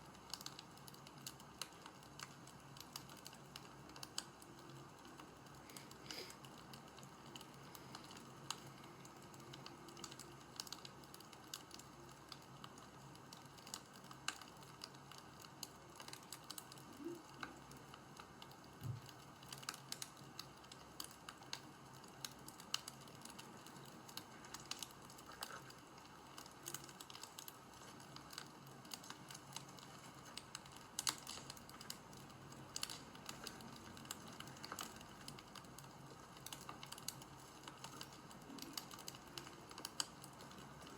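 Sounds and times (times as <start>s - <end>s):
faint clicks and crackles: 0.0s - 40.9s.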